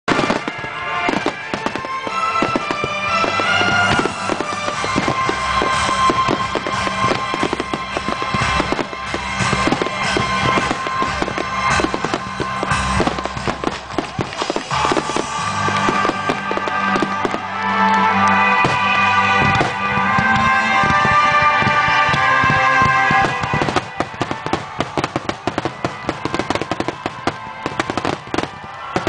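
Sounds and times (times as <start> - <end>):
firework bursts and crackles: 0.1 - 29.0
music playing: 0.1 - 29.0.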